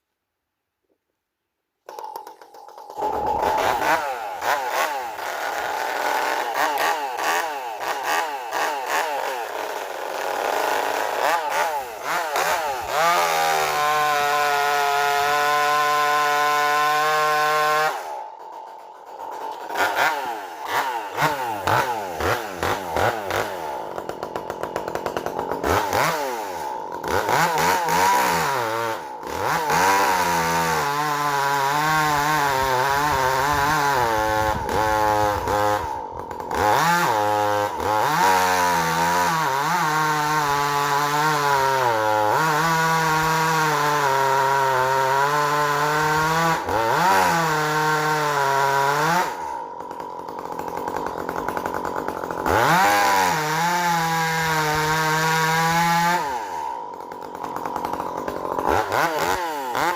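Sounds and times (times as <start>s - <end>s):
chainsaw revving and cutting wood: 1.8s - 59.9s.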